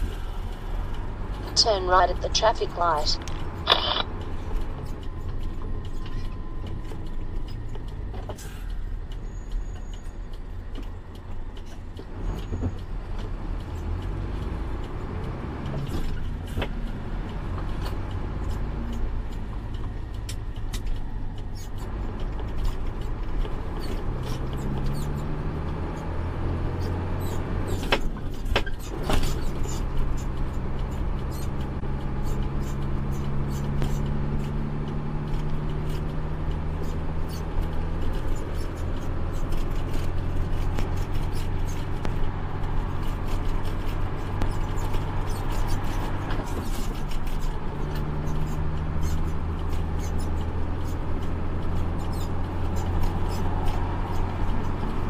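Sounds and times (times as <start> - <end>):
truck engine accelerating: 0.0 - 55.0.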